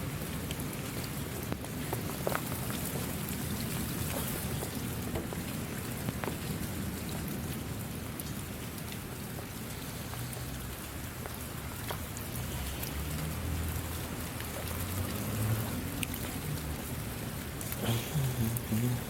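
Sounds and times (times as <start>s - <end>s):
raindrop ticks: 0.0s - 19.0s
steady rain falling: 0.0s - 19.0s.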